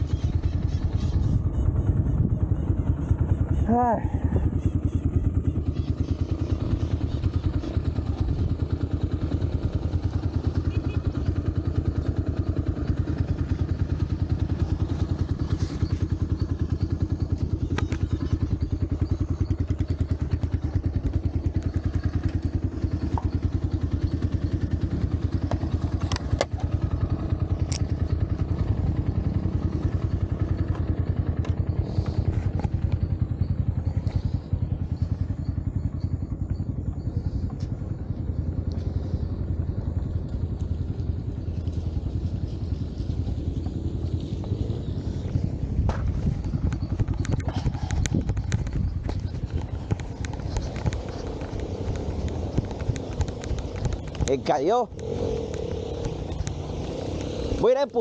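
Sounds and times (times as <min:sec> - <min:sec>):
motorcycle engine running at low revs: 0:00.0 - 0:58.0.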